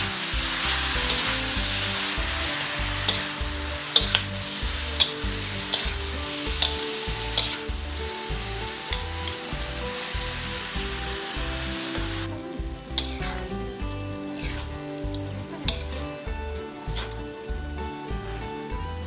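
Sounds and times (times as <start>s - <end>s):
metal spatula scraping a pan: 0.0s - 17.3s
background music with a beat: 0.0s - 19.0s
food sizzling in a wok: 0.0s - 19.0s.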